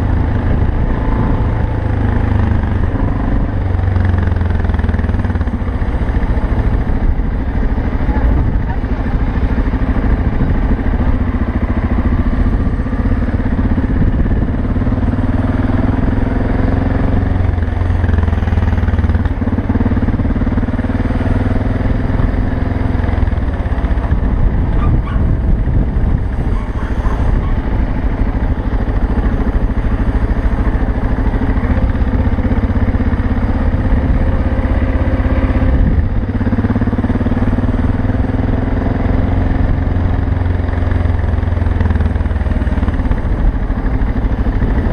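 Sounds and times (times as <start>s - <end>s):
motorcycle engine droning: 0.0s - 44.9s.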